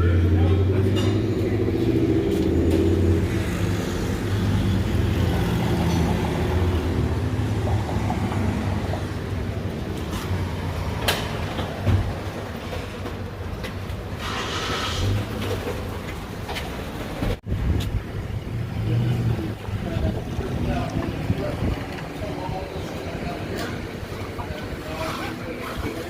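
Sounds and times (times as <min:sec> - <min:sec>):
vehicle engine droning: 0:00.0 - 0:26.0.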